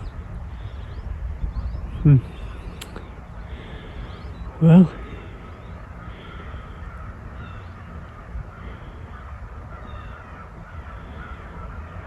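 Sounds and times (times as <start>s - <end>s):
birds calling: 0.0s - 12.0s
steady low rumble: 0.0s - 12.0s.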